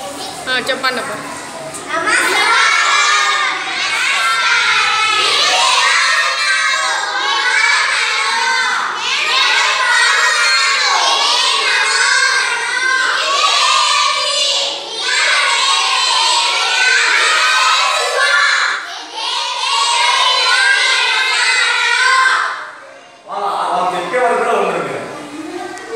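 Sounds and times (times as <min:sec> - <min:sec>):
children chanting in unison: 0:01.9 - 0:23.4.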